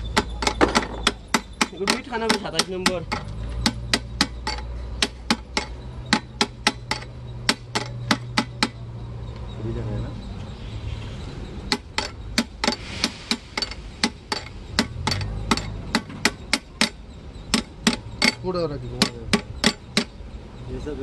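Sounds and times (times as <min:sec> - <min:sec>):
hammer tapping on steel: 0:00.0 - 0:08.8, 0:11.7 - 0:20.2.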